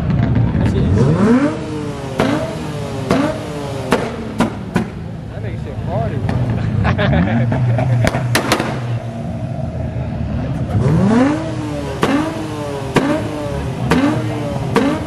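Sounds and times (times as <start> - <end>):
car engine idling: 0.0 - 15.0
car engine revving: 0.0 - 15.0
exhaust crack: 0.0 - 15.0.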